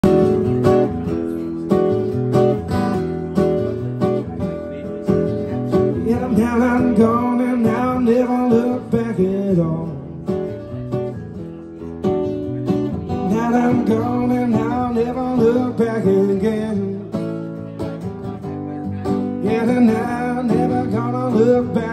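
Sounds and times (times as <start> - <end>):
acoustic guitar strummed: 0.0 - 21.9.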